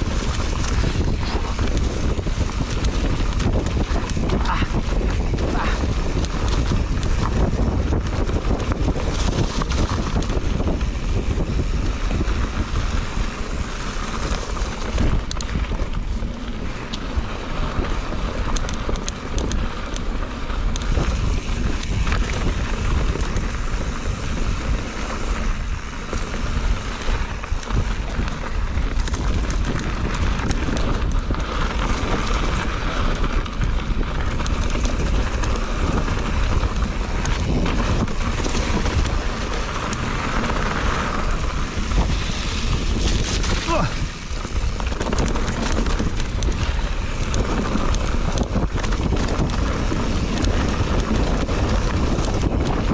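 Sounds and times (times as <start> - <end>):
bike rattling and clicking: 0.0 - 52.9
tyres on dirt and dry leaves: 0.0 - 52.9
wind rushing over microphone: 0.0 - 52.9.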